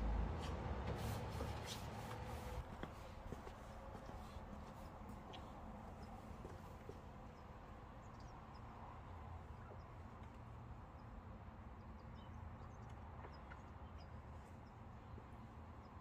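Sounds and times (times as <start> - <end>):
faint ticks: 2.8 - 16.0.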